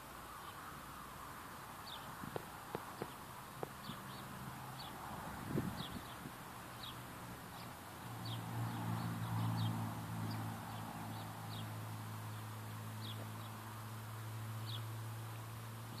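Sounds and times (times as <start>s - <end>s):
small birds chirping: 1.7s - 16.0s.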